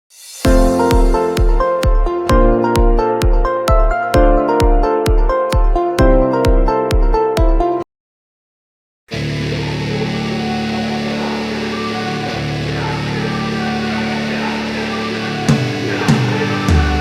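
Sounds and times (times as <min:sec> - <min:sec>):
electric guitar chords: 0:00.4 - 0:07.8, 0:09.1 - 0:17.0.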